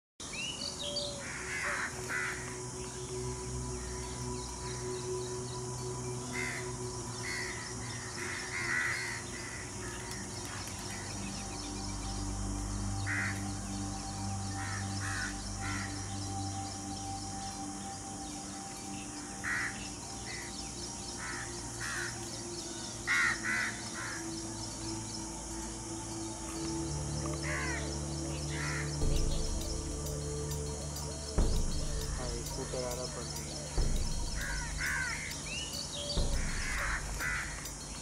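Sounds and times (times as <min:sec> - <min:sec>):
background music drone: 0:00.2 - 0:38.0.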